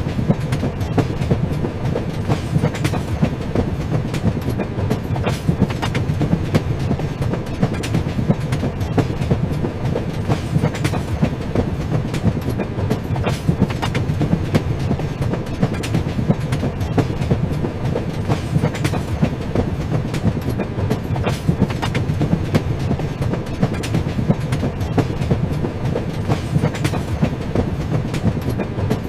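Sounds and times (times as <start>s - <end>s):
train rumble: 0.0s - 29.0s
wheels clickety-clack on rail joints: 0.0s - 29.0s.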